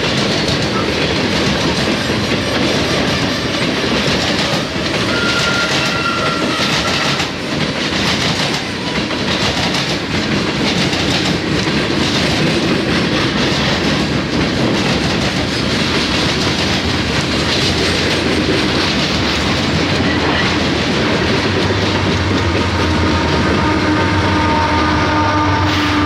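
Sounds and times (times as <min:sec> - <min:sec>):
steel wheels clattering on rails: 0:00.0 - 0:24.8
diesel locomotive hum: 0:00.0 - 0:26.0.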